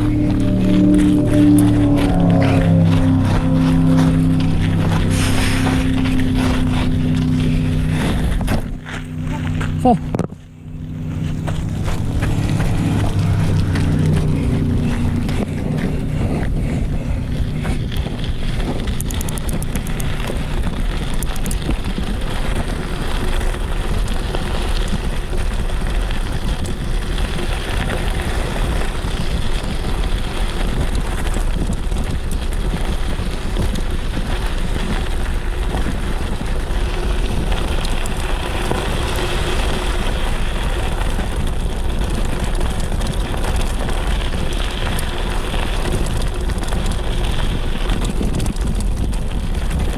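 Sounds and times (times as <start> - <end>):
mountain bike on dirt trail: 0.0 - 49.9
wind buffeting microphone: 0.0 - 49.9.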